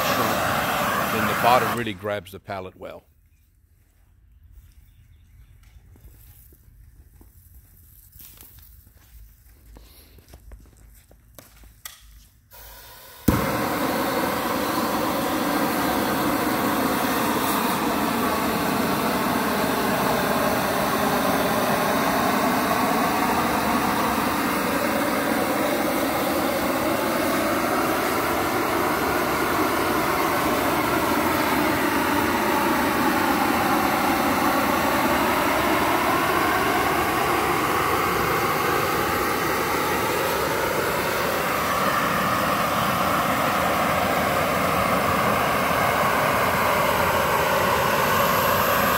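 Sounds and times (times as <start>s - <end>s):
heat torch burner blowing: 0.0s - 2.9s, 6.0s - 48.9s.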